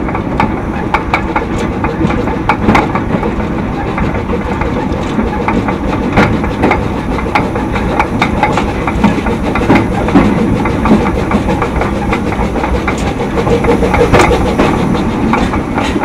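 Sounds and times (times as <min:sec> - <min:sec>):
train rumbling: 0:00.0 - 0:16.0
wheels clicking on rails: 0:00.0 - 0:16.0.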